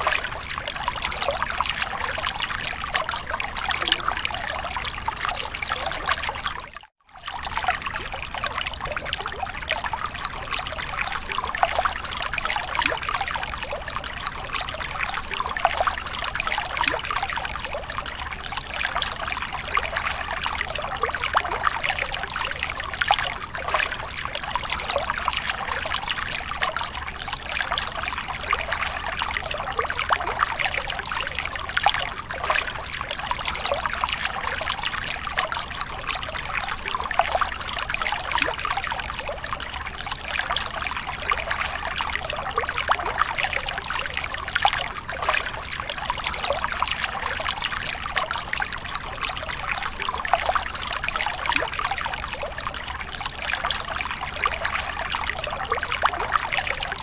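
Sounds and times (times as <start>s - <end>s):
water trickling over rocks: 0.0s - 57.0s.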